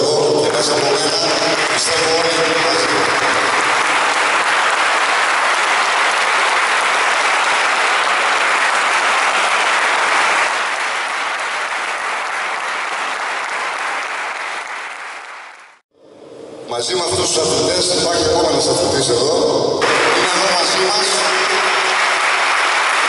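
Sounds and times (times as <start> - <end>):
people clapping: 0.0 - 15.8, 19.8 - 23.0.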